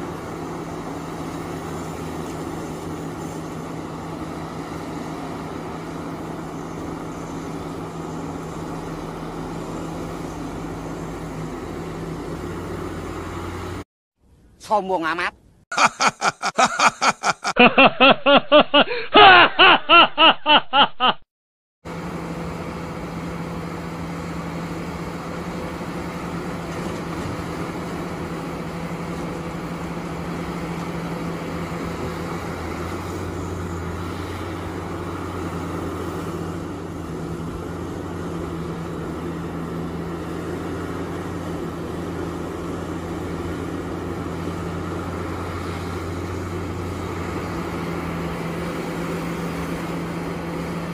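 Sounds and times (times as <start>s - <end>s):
excavator diesel engine running: 0.0s - 13.8s, 21.9s - 50.9s.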